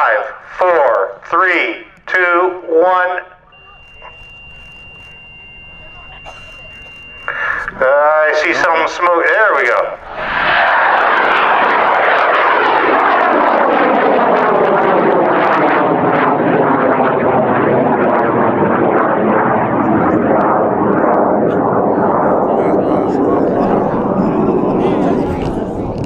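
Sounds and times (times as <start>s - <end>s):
rocket motor roaring: 4.4s - 26.0s.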